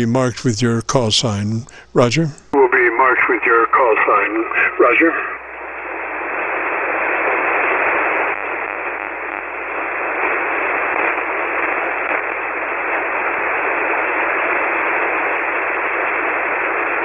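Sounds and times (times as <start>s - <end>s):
radio receiver hiss: 0.0s - 17.0s.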